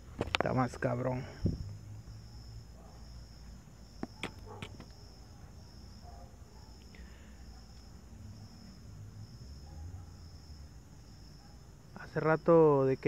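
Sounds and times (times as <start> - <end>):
insect chirping trill: 0.0 - 13.0.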